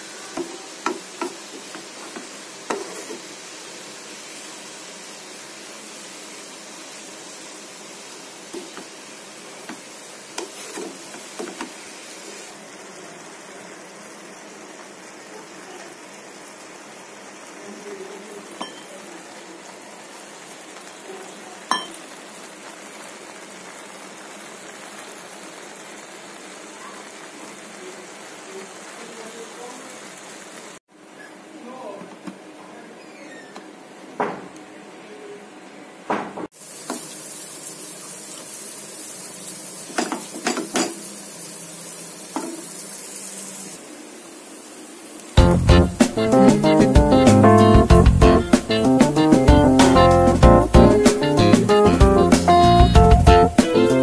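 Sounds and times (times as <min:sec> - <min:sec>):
leaves sizzling in a pan: 0:00.0 - 0:31.9, 0:36.4 - 0:54.0.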